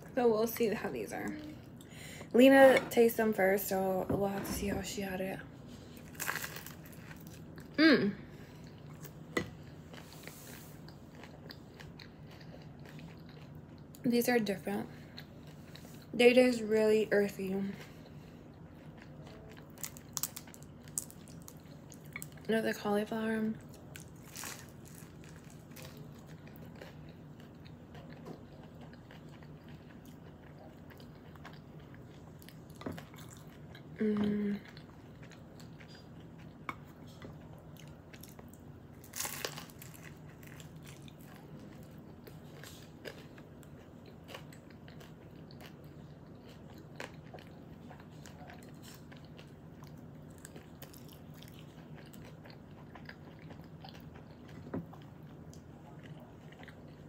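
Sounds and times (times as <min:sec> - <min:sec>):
low room hum: 0:00.0 - 0:57.0
chewing crispy food: 0:05.6 - 0:16.2, 0:17.3 - 0:57.0.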